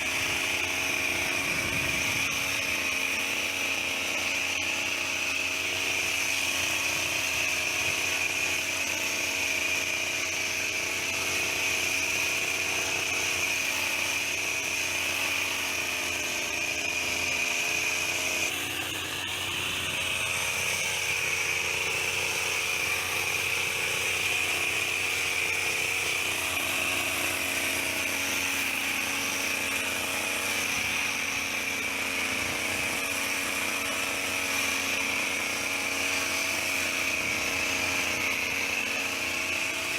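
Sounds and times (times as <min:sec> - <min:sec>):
hedge trimmer engine whining: 0:00.0 - 0:39.9.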